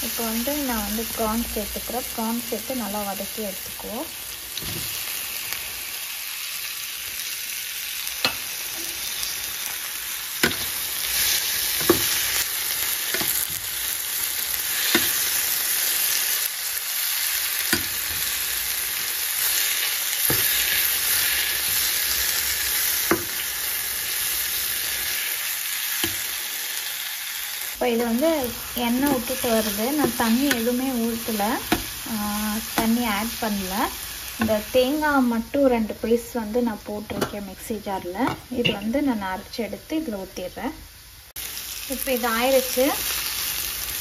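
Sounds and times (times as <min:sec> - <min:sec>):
prawns sizzling in a pan: 0:00.0 - 0:44.0.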